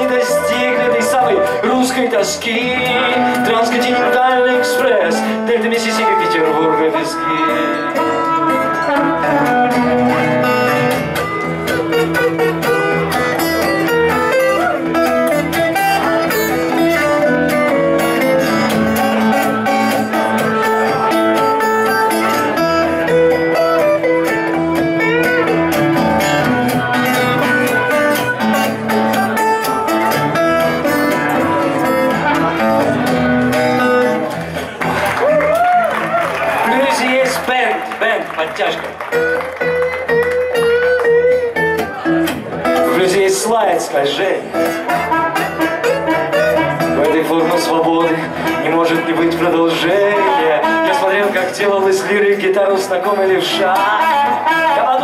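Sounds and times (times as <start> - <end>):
blues harmonica solo: 0.0 - 35.6, 39.0 - 43.0, 44.4 - 49.1
strummed acoustic guitar: 0.0 - 36.4, 37.0 - 55.0.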